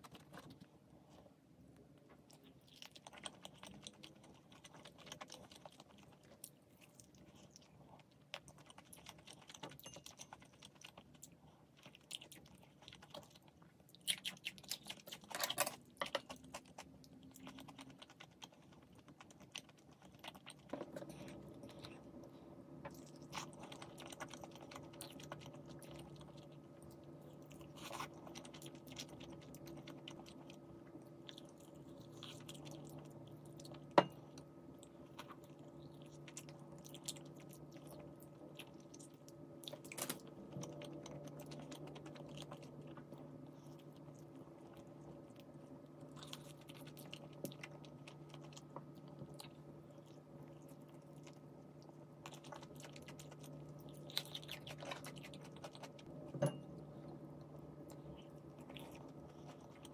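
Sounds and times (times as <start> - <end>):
steady low hum: 0.0 - 59.9
person chewing crunchily: 2.2 - 56.1, 56.8 - 59.9.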